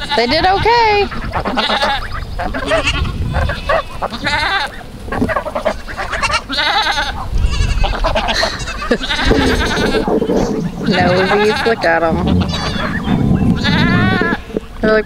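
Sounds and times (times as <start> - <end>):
goats bleating: 0.0 - 15.0.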